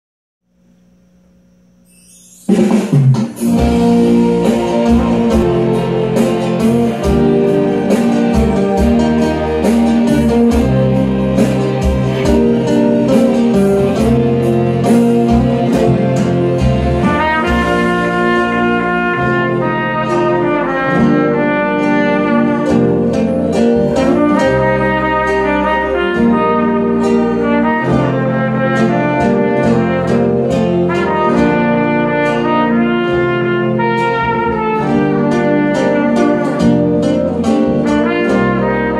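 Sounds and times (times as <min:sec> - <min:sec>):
backing track sustained chords: 0:00.5 - 0:38.9
solo trumpet melody: 0:01.6 - 0:38.9.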